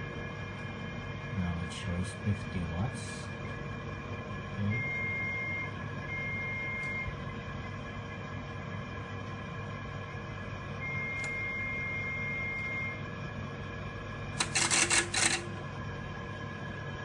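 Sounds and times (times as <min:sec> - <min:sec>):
radio amplifier hum: 0:00.0 - 0:17.0.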